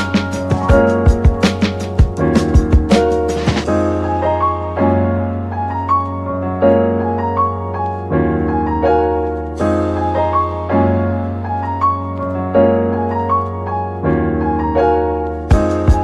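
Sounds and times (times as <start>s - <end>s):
piano-like keyboard chords: 0.0s - 16.0s.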